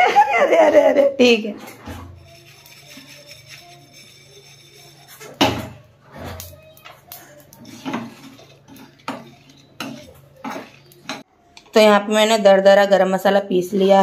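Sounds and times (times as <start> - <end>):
kitchen utensils clattering: 0.0 - 11.3.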